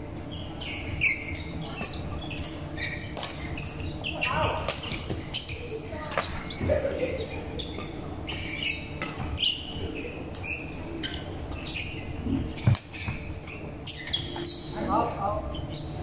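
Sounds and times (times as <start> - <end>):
shoes squeaking on wooden floor: 0.2 - 15.0.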